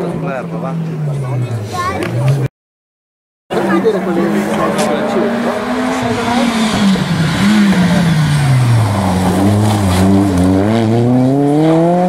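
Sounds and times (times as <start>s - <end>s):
rally car engine: 0.0s - 2.5s, 3.5s - 12.0s.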